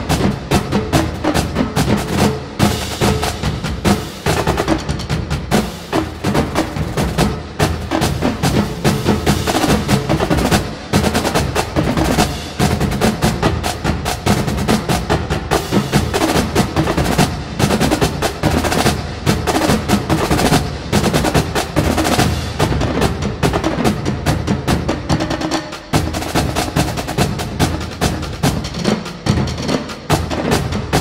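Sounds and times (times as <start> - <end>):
percussion music fast beat: 0.0 - 31.0.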